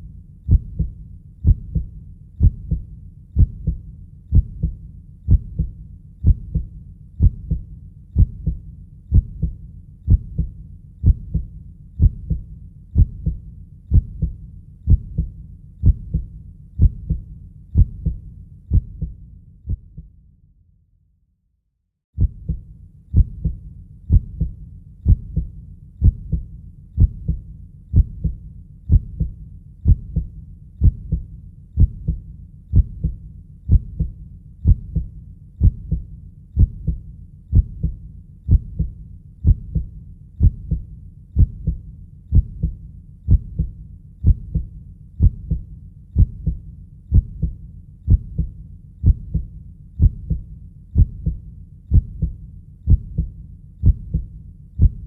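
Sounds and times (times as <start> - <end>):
heartbeat lub-dub: 0.0 - 20.1, 22.2 - 55.0.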